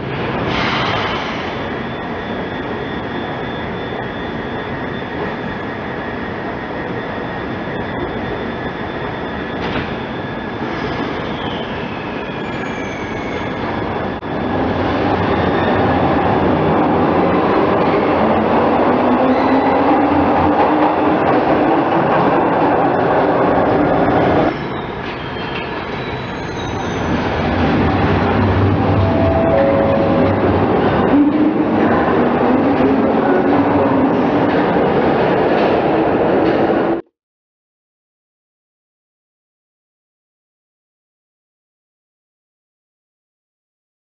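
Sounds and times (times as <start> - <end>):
subway train humming: 0.0 - 37.1.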